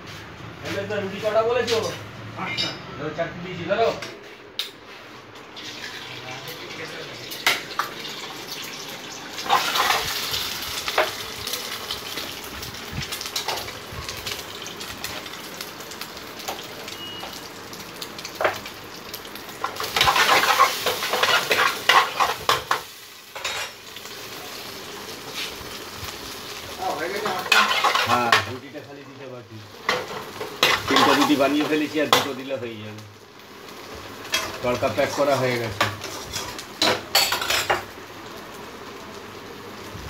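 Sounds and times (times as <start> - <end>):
egg frying in hot oil: 5.4 - 40.0.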